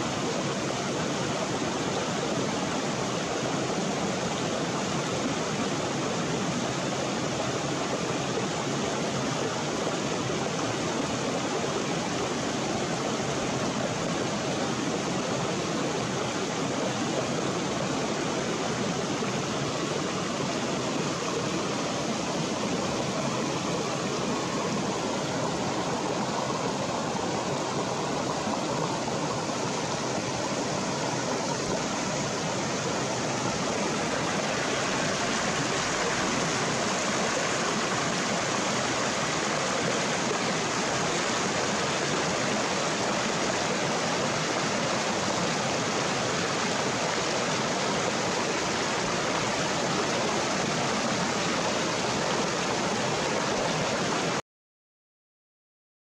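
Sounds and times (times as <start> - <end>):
stream water rushing over rocks: 0.0 - 54.4.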